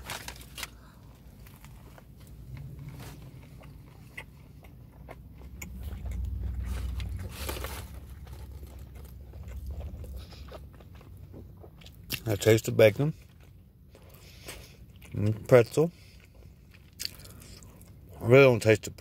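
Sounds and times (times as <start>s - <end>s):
person chewing crunchy sandwich: 0.0s - 18.2s.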